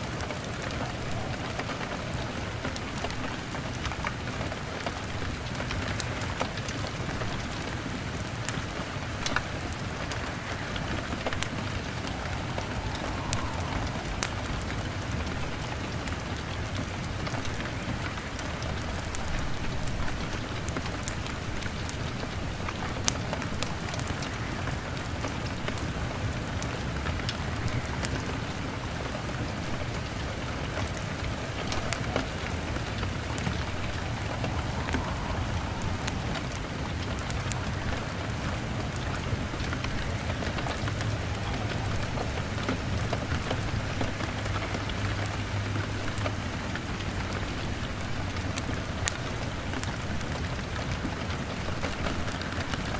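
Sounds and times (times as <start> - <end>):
log fire crackling: 0.0 - 52.9
rain on a window pane: 0.0 - 52.9.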